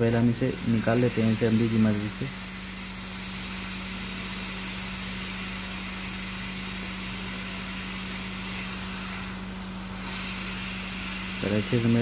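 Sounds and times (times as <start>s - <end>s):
hot-air blower hissing: 0.0s - 12.0s.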